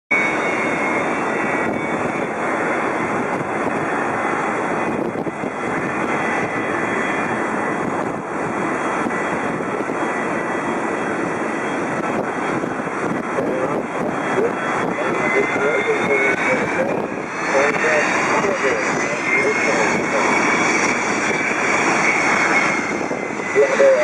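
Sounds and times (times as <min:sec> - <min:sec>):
jet airliner engines running: 0:00.1 - 0:24.0.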